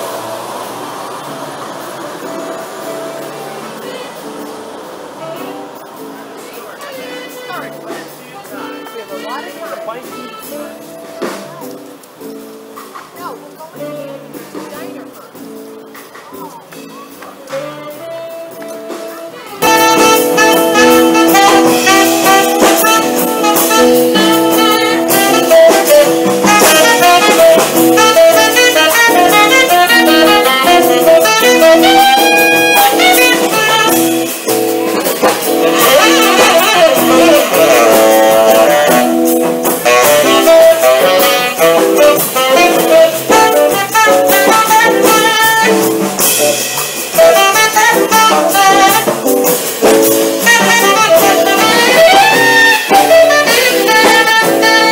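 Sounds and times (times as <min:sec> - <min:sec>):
electric guitar: 0:00.0 - 0:54.9
saxophone melody: 0:00.0 - 0:54.9
upright bass: 0:02.2 - 0:54.9.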